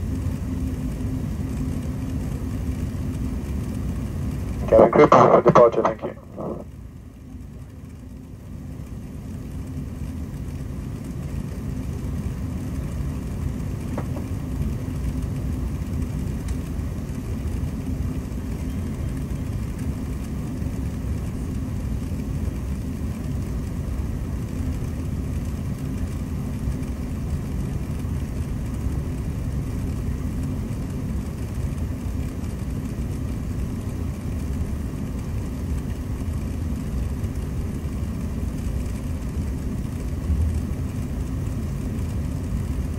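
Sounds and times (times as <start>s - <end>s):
jet engines from inside cabin: 0.0s - 42.9s.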